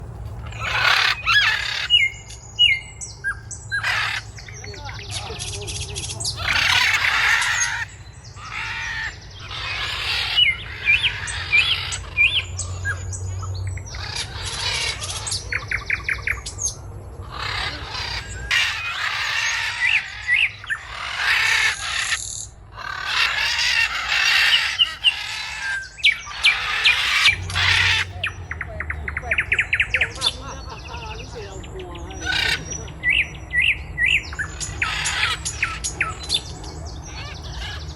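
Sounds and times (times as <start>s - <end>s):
macaw squawking: 0.4s - 2.8s, 3.7s - 13.1s, 13.9s - 16.4s, 17.3s - 37.9s.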